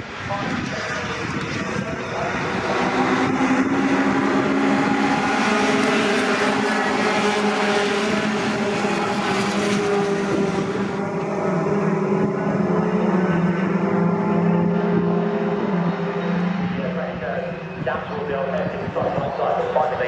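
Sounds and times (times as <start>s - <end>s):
racing truck engines: 0.0s - 20.0s.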